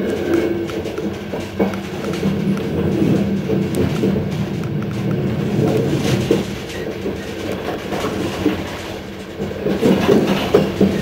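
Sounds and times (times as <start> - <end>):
train running hum: 0.0 - 11.0
wheels knocking over rail joints: 0.0 - 11.0.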